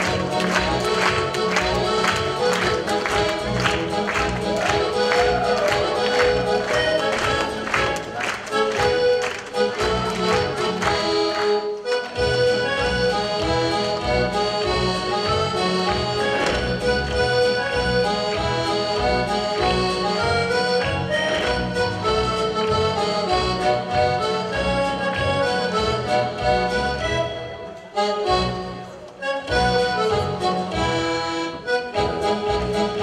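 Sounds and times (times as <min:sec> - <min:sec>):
accordion folk dance music: 0:00.0 - 0:33.0.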